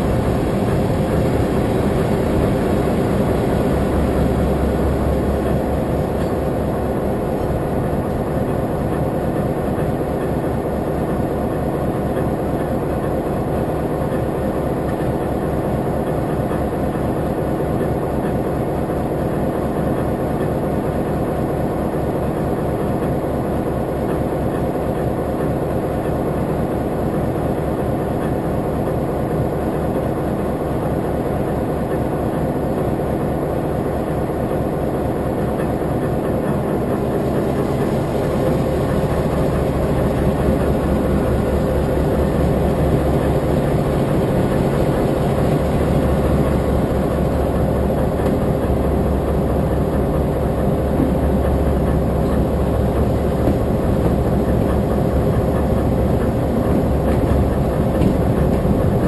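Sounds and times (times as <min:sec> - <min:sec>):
diesel engine idling: 0:00.0 - 0:20.9, 0:30.6 - 0:59.0
train wheels clattering on rails: 0:00.0 - 0:59.0.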